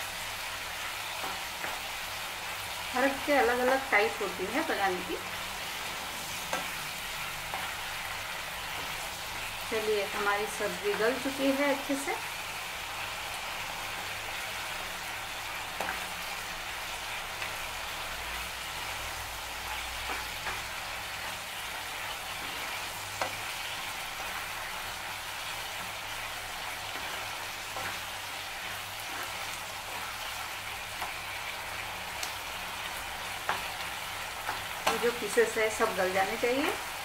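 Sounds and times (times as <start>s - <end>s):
curry sizzling in a frying pan: 0.0s - 37.0s.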